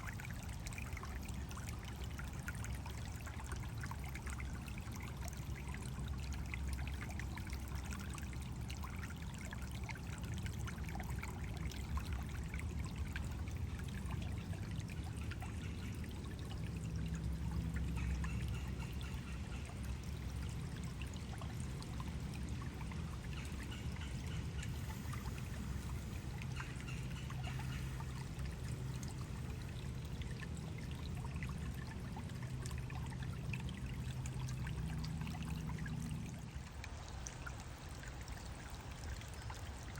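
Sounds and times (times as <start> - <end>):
stream trickling over small waterfall: 0.0 - 39.9.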